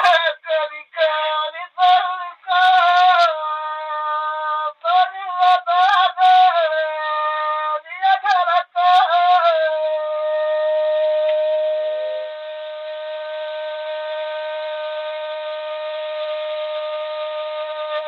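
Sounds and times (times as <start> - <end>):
high voice singing folk song: 0.0 - 18.0.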